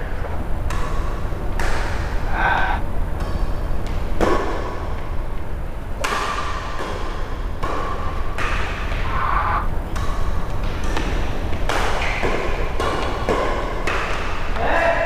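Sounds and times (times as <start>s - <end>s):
racket hitting shuttlecock: 0.6s - 2.3s, 3.2s - 5.0s, 6.0s - 14.6s.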